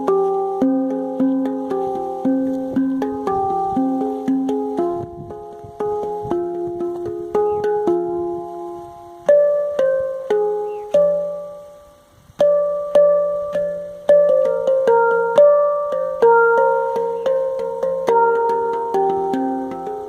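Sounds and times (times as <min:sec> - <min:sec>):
handpan notes ringing: 0:00.0 - 0:20.0.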